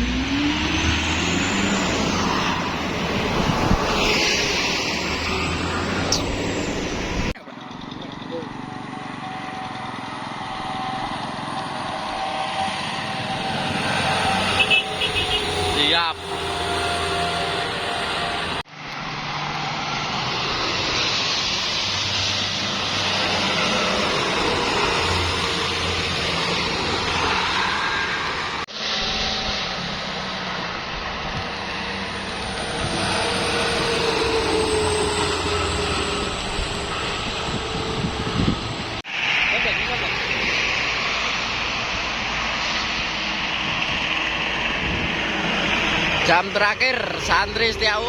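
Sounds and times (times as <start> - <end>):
truck roaring on road: 0.0 - 48.0.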